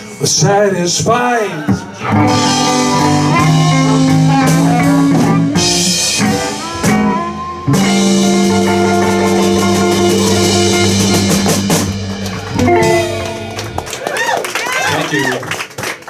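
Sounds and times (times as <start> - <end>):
blues band playing: 0.0 - 15.2.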